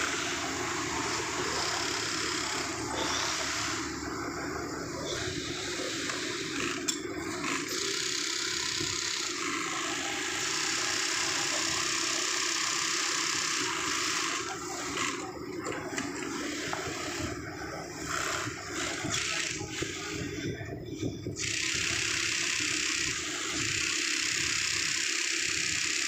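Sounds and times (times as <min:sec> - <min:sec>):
sewing machine running: 0:00.0 - 0:20.2, 0:21.4 - 0:26.0
workshop machine noise: 0:00.0 - 0:26.0.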